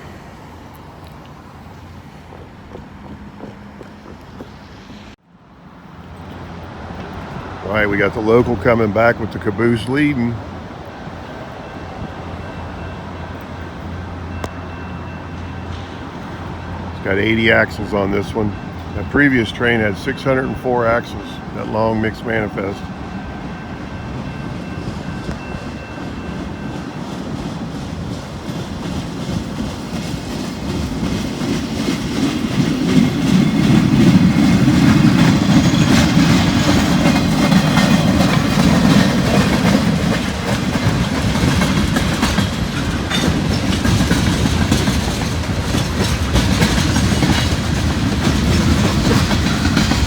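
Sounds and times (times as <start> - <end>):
freight train rumbling past: 0.0 - 50.0
wheels clacking over rail joints: 0.7 - 5.2, 6.1 - 11.1, 14.4 - 50.0.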